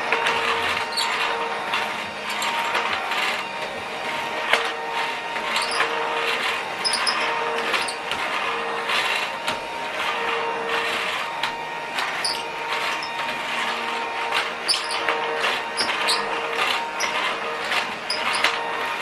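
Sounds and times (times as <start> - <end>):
toy vacuum cleaner motor whine: 0.0 - 19.0.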